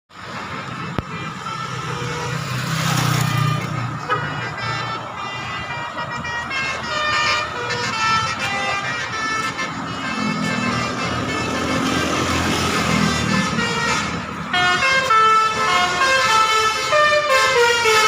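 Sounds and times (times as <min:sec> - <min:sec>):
diesel bus engine rumble: 0:00.1 - 0:18.0
musical bus horns: 0:00.5 - 0:18.0.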